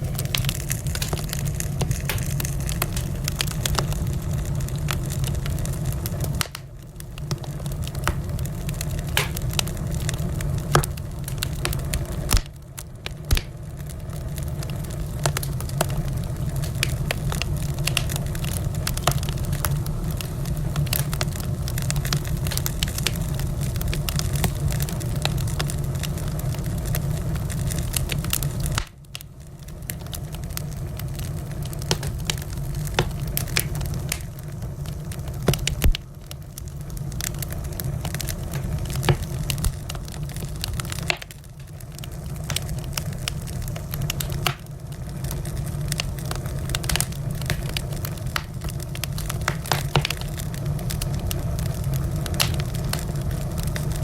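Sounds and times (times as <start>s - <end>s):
fire popping: 0.0s - 54.0s
wood fire crackling: 0.0s - 54.0s.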